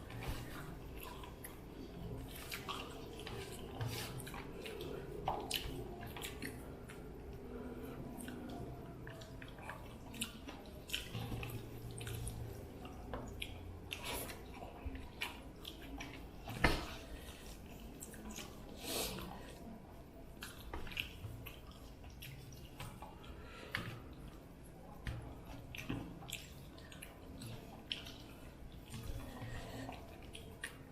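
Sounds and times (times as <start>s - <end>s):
wet squishing and smacking of eating: 0.0s - 30.9s.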